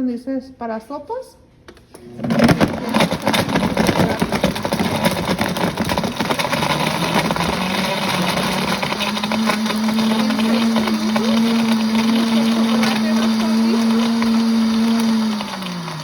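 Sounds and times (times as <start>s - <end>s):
blender motor humming: 2.0s - 16.0s
chunks clattering in blender: 2.0s - 16.0s.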